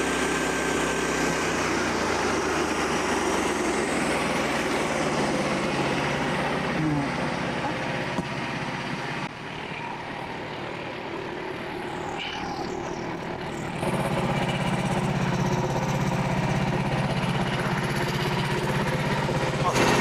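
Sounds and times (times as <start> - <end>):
sawmill engine running: 0.0 - 20.0.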